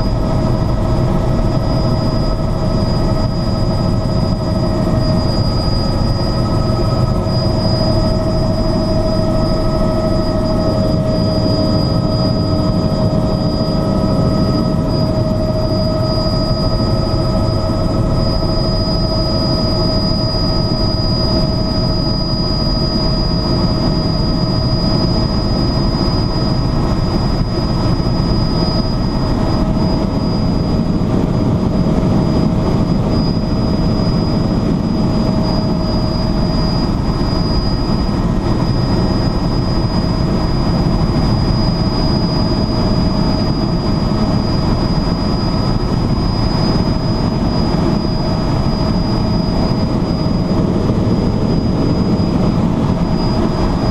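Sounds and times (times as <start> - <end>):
helicopter rotor and engine rumble: 0.0 - 53.9
high whine: 0.0 - 53.9.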